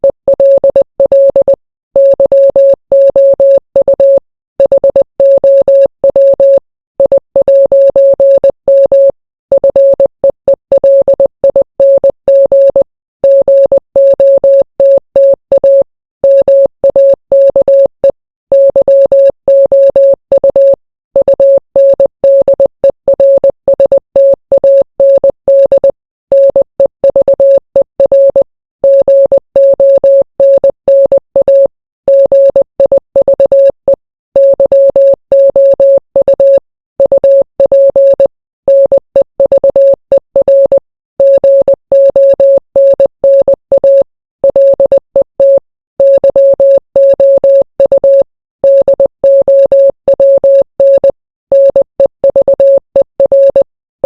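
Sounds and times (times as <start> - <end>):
morse code beeps: 0.0 - 53.7.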